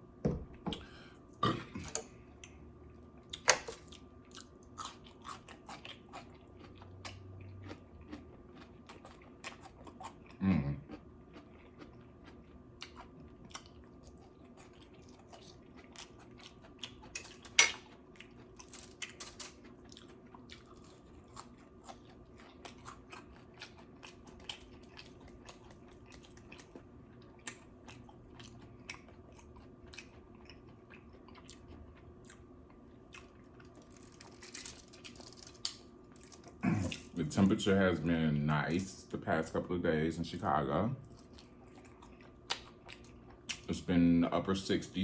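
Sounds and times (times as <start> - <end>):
chewing and crunching food: 0.7 - 45.0.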